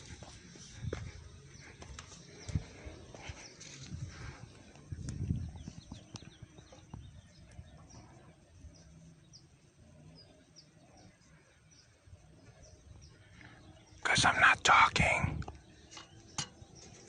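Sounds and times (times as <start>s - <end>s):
low background noise: 0.0s - 17.0s
small birds chirping faintly: 0.0s - 17.0s.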